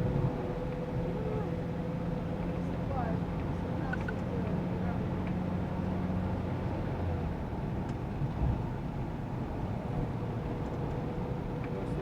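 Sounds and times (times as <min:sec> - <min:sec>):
engine and tyre noise in cabin: 0:00.0 - 0:12.0.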